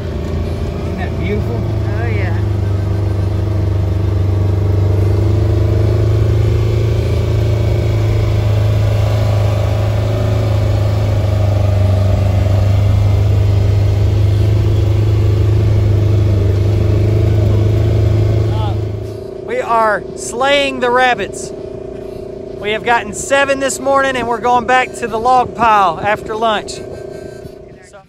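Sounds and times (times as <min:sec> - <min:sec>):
vehicle engine droning: 0:00.0 - 0:28.0.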